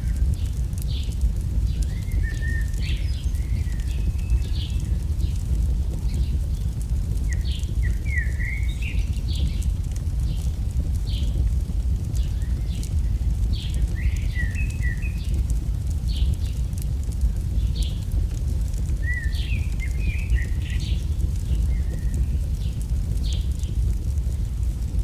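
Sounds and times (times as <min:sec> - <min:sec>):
campfire crackling: 0:00.0 - 0:25.0
steady low rumble: 0:00.0 - 0:25.0
birds chirping: 0:00.1 - 0:24.9.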